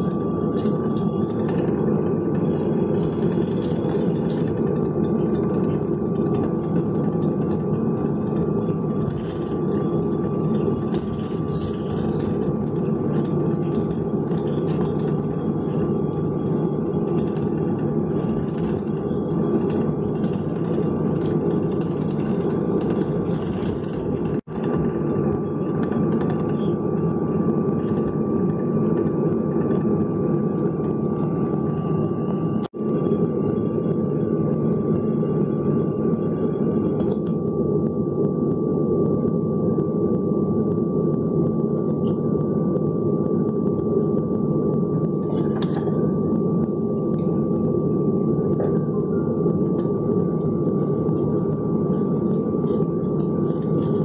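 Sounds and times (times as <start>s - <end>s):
airplane cabin engine rumble: 0.0s - 54.0s
high engine whine: 0.0s - 54.0s.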